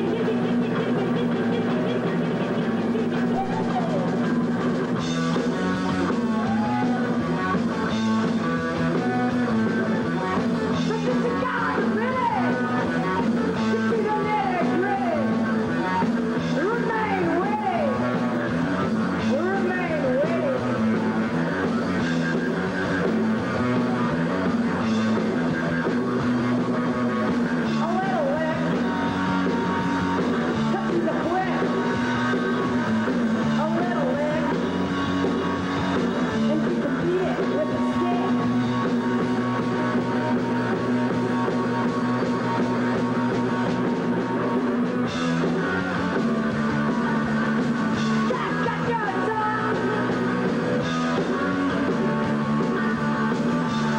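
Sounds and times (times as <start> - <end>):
punk rock band playing live: 0.0 - 53.9.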